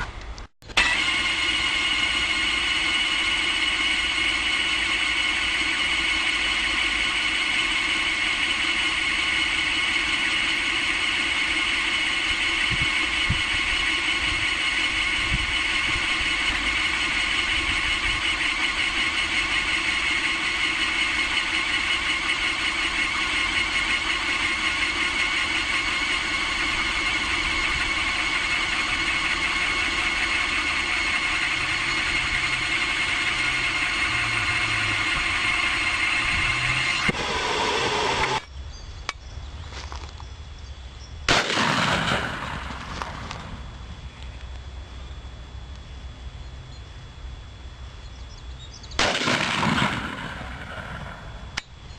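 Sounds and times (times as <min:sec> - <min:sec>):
motor drone with high whine: 0:00.0 - 0:51.9.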